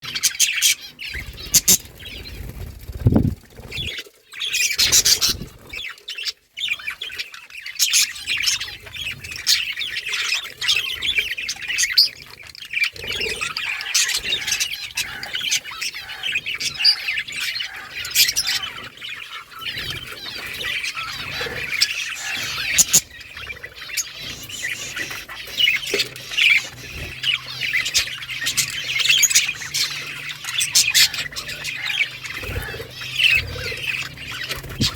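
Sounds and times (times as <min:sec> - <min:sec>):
budgerigars chirping and singing: 0:00.0 - 0:34.9.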